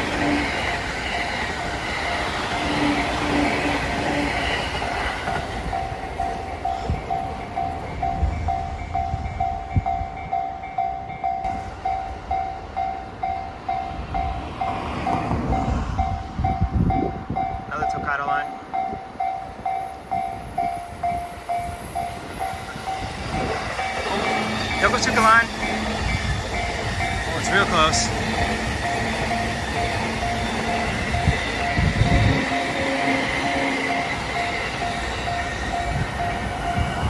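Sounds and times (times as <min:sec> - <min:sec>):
higher-pitched alarm: 0:00.0 - 0:37.0
train passing: 0:00.0 - 0:37.0
level crossing bell ringing: 0:04.9 - 0:37.0.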